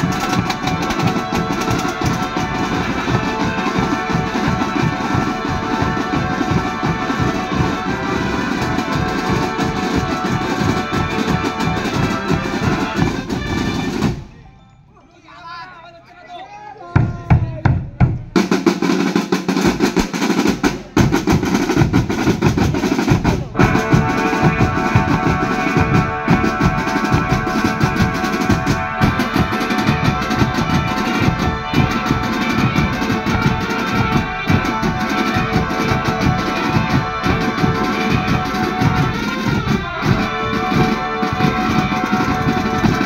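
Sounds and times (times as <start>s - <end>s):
marching snare and bass drums: 0.0s - 14.3s, 17.0s - 43.0s.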